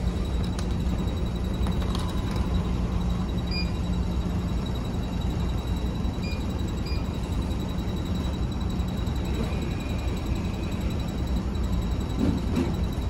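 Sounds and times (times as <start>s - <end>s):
short electronic keypad beeps: 1.0s - 13.0s.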